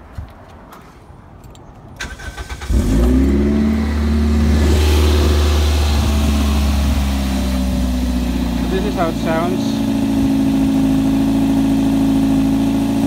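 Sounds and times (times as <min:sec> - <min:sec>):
engine cranking and idling: 0:02.0 - 0:13.0.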